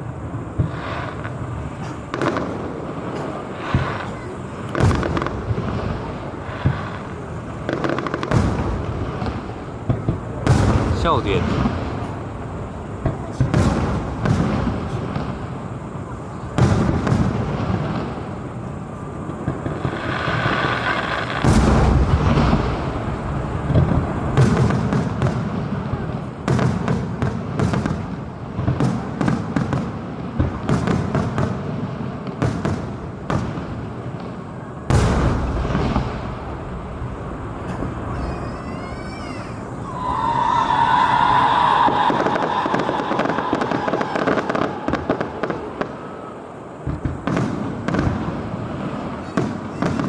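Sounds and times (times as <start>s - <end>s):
fireworks bursting with bangs: 0.0s - 50.0s
fireworks crackling: 0.0s - 50.0s.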